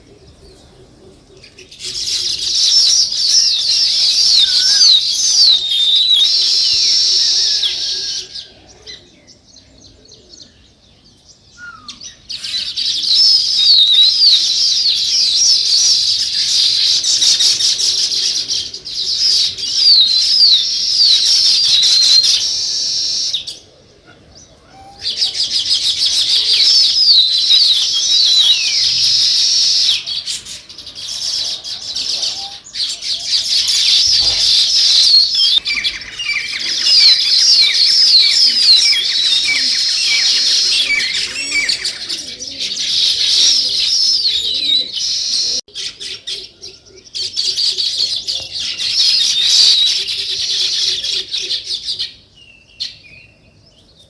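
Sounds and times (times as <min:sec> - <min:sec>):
flock of small birds chirping: 0:00.0 - 0:54.0.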